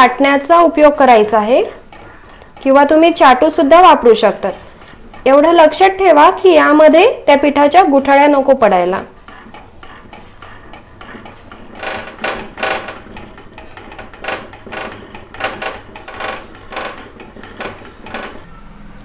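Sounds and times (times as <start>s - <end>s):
rolling pin scraping metal pot: 0.0s - 18.5s.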